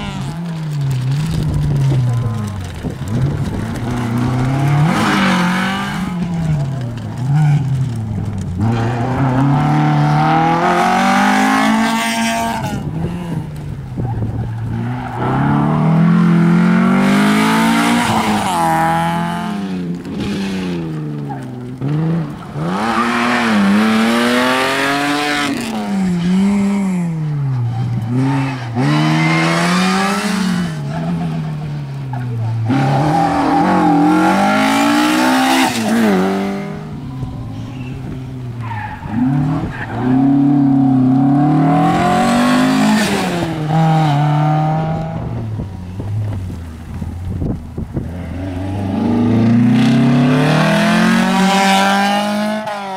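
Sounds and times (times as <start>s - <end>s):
rally cars passing at full throttle: 0.0s - 52.9s.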